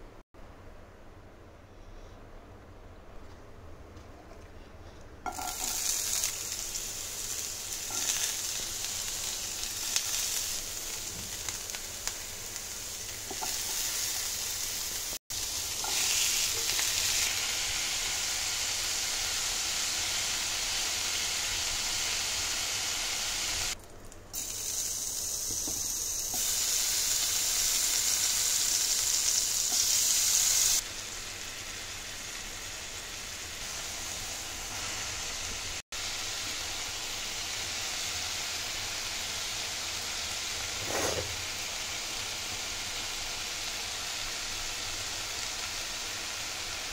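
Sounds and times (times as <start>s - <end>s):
vegetables sizzling in hot oil: 5.2s - 46.9s.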